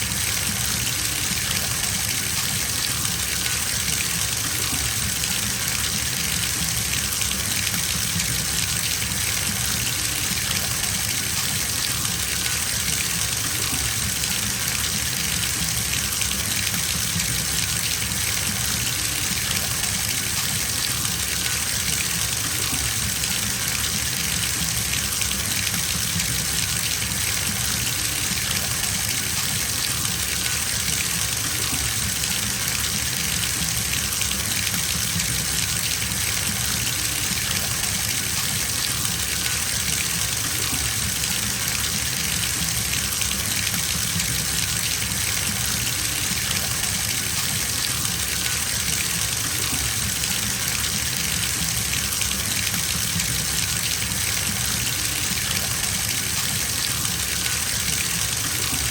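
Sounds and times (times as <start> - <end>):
tap water filling bathtub: 0.0 - 58.9.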